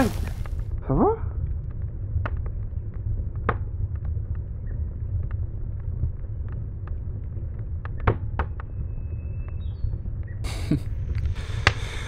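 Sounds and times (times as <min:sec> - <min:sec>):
fire crackling: 0:00.0 - 0:12.0
low rumble: 0:00.0 - 0:12.0.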